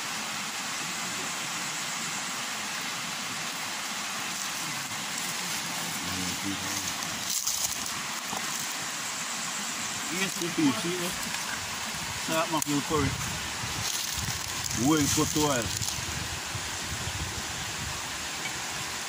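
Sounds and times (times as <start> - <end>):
river water flowing over rocks: 0.0 - 19.0.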